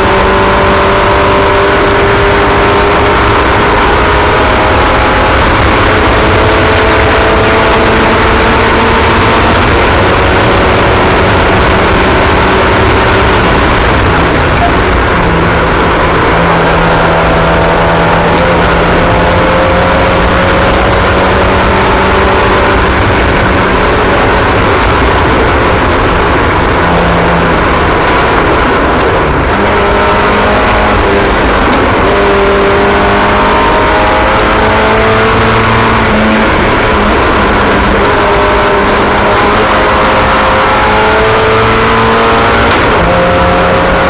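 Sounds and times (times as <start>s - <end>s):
race car engines: 0.0s - 44.0s.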